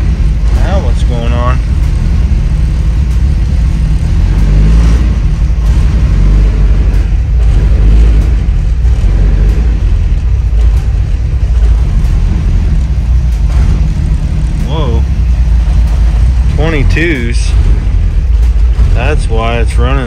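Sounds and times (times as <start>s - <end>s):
car engine idling roughly: 0.0s - 20.0s.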